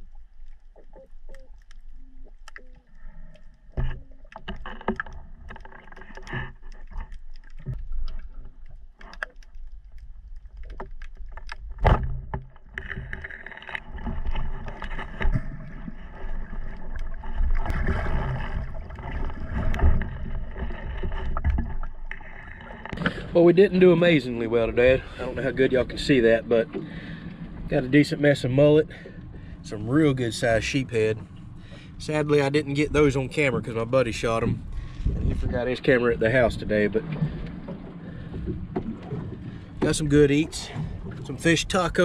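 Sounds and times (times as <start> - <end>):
muffled underwater water rushing: 0.0 - 42.0.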